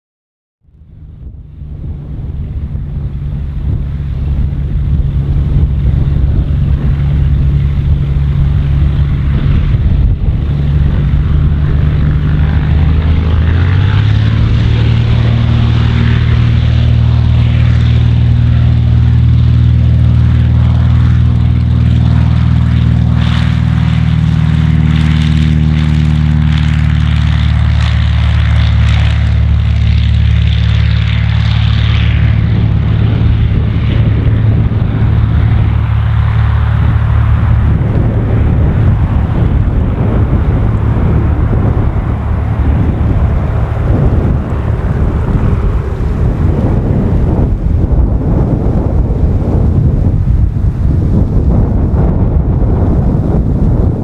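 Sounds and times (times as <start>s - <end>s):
small plane engine and propeller: 0.6s - 54.0s.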